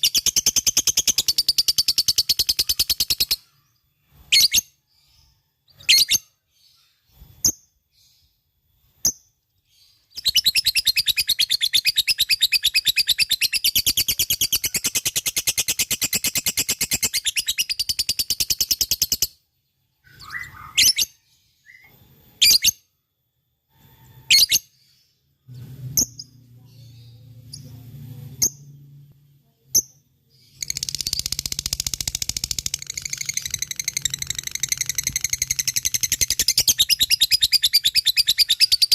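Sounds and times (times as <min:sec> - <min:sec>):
lovebird chirping and trilling: 0:00.0 - 0:23.0, 0:23.8 - 0:29.0, 0:29.7 - 0:38.9.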